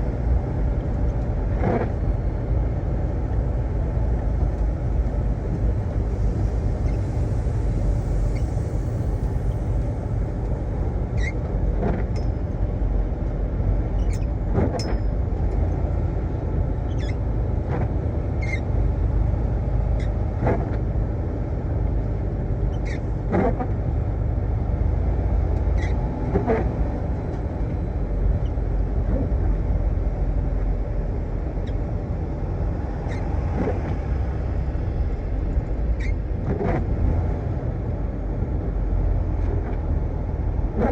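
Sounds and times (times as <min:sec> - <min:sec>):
truck engine low rumble: 0:00.0 - 0:40.9.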